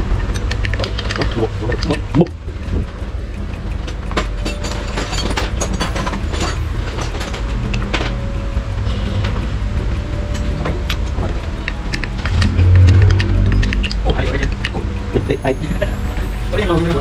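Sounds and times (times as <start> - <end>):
metal parts clicking and knocking: 0.0 - 15.3
low rumble: 0.0 - 16.8.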